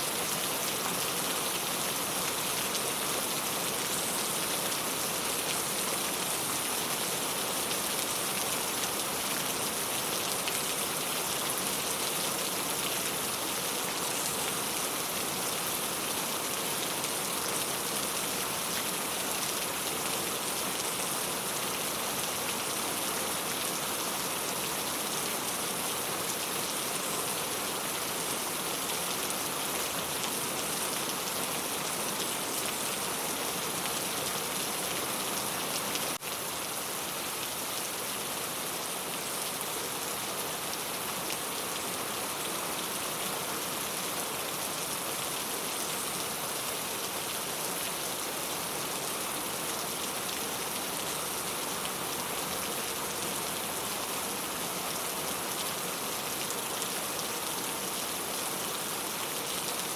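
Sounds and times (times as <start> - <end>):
rain on a tile roof: 0.0 - 59.9.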